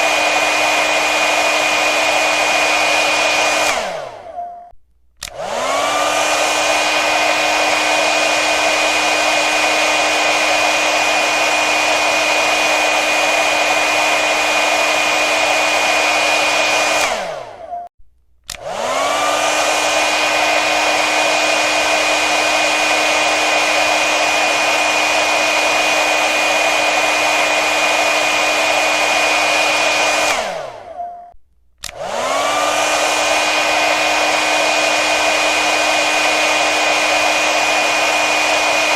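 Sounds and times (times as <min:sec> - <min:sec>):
hair dryer running: 0:00.0 - 0:04.4, 0:05.2 - 0:17.8, 0:18.5 - 0:31.1, 0:31.8 - 0:38.9.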